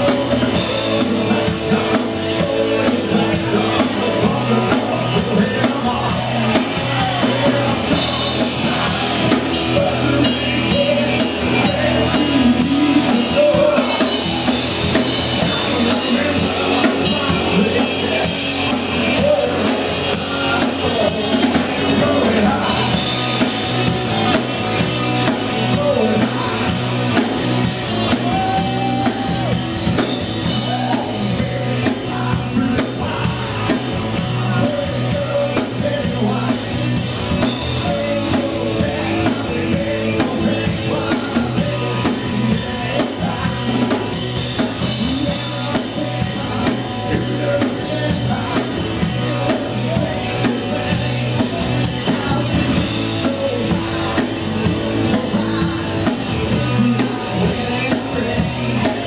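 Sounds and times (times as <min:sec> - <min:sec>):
drum kit beat: 0:00.0 - 0:59.0
person singing: 0:00.0 - 0:59.0
rock music: 0:00.0 - 0:59.0.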